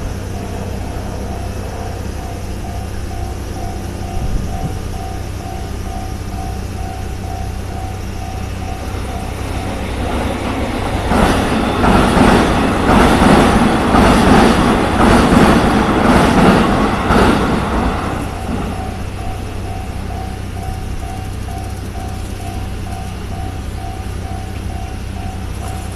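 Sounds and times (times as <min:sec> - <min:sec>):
electric train passing: 0:00.0 - 0:25.9
wheels knocking on rail joints: 0:00.0 - 0:25.9.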